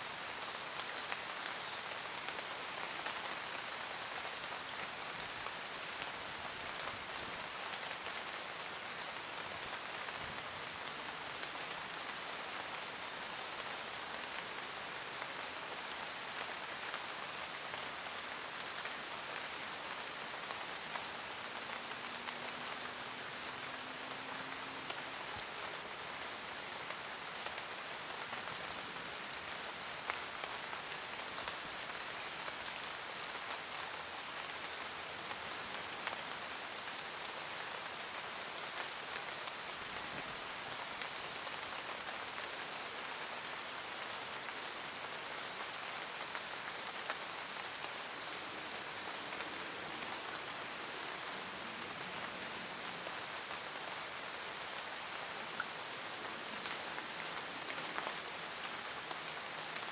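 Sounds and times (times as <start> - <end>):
steady rain in forest: 0.0 - 59.9.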